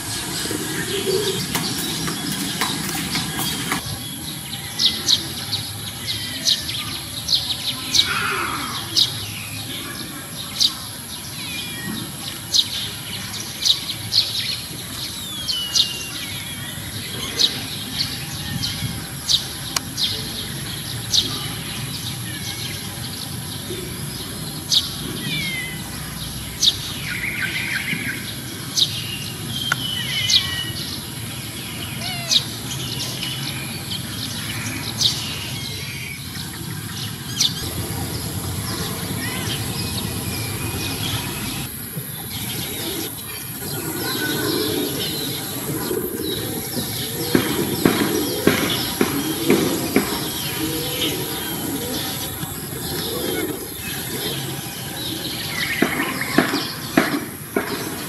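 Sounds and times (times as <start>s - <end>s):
outdoor background noise: 0.0s - 58.0s
small birds chirping: 0.0s - 58.0s.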